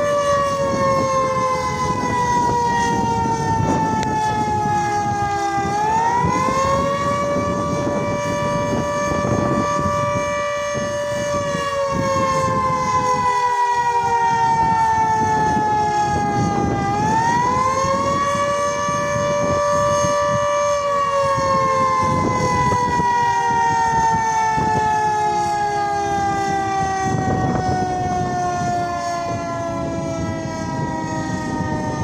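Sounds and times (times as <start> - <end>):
civil defence siren wailing: 0.0 - 32.0.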